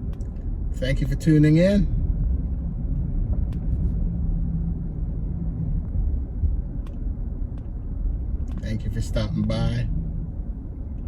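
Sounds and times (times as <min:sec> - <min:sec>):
road and engine rumble in vehicle: 0:00.0 - 0:11.0.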